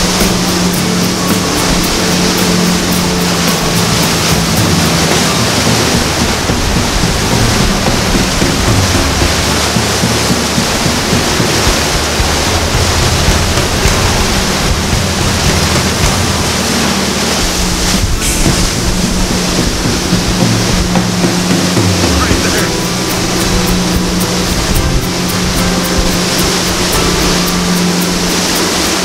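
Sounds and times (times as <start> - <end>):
boat engine drone: 0.0 - 29.0
sea water rushing past boat: 0.0 - 29.0.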